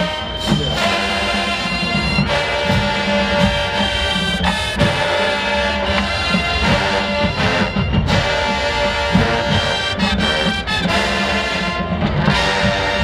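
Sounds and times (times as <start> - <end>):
marching band brass chords: 0.0 - 13.0.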